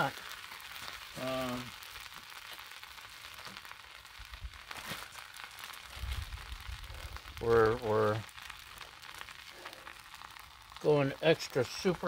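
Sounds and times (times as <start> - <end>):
toast sizzling on griddle: 0.0 - 12.0.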